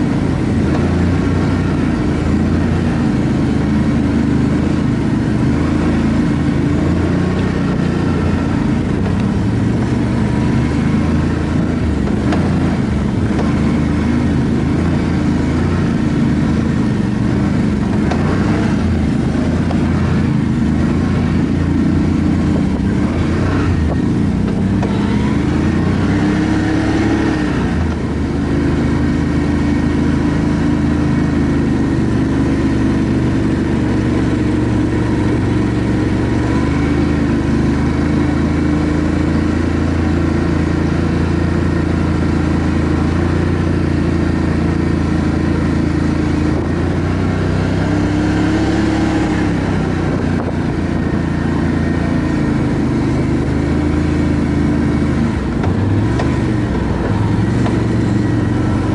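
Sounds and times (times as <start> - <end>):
quad bike engine running: 0.0 - 58.9.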